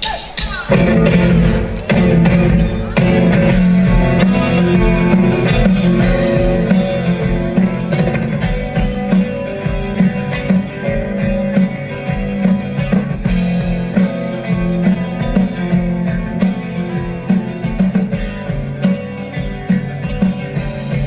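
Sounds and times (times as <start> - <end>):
drum kit: 0.0 - 21.0
electric guitar: 0.6 - 21.0.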